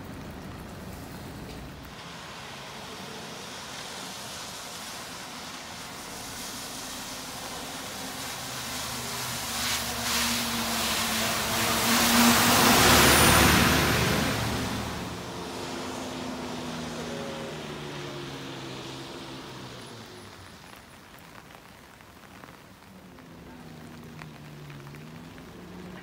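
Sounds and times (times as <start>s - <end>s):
rain hiss: 0.0s - 26.0s
tyres hissing on wet asphalt: 0.0s - 26.0s
bus engine passing: 0.1s - 21.2s.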